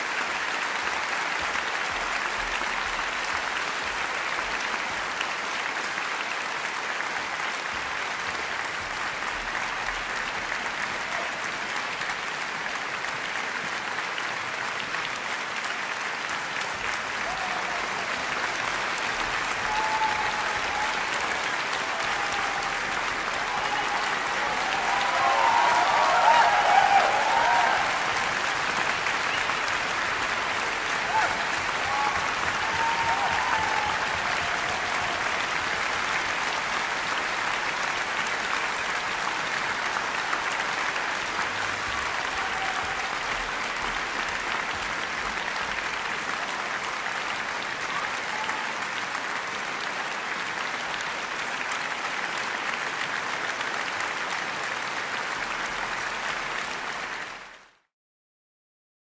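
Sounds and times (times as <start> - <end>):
audience applauding: 0.0 - 57.9.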